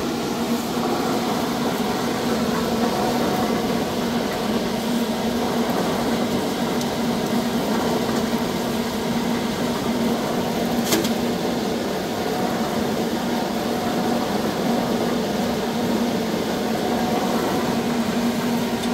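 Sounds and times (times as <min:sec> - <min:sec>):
blower fan running: 0:00.0 - 0:18.9.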